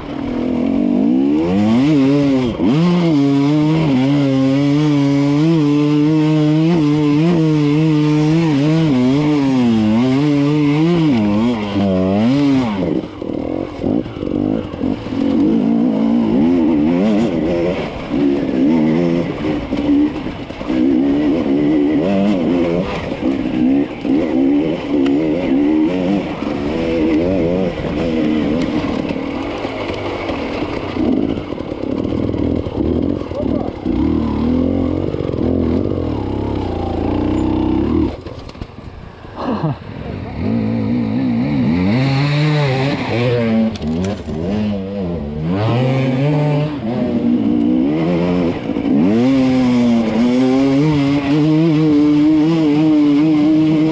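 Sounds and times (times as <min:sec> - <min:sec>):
dirt bike engine revving: 0:00.0 - 0:38.4, 0:39.1 - 0:53.9.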